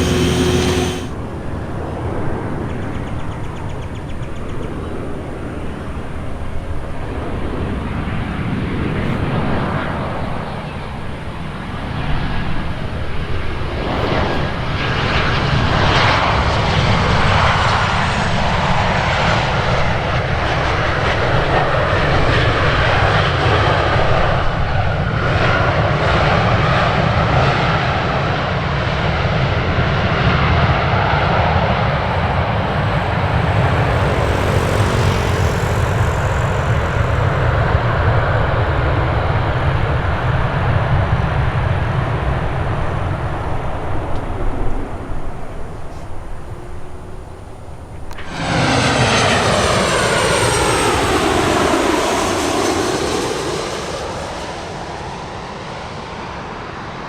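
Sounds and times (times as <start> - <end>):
jet engines running loud: 0.0 - 57.0.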